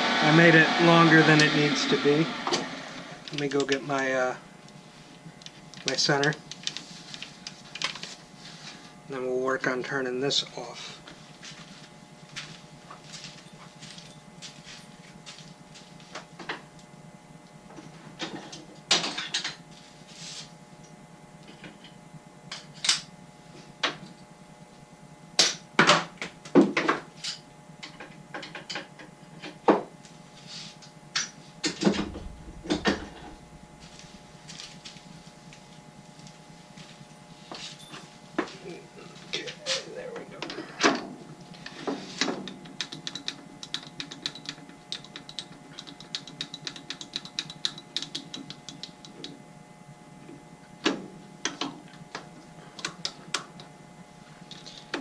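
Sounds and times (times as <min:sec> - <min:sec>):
faint steady hum: 0:02.9 - 0:55.0.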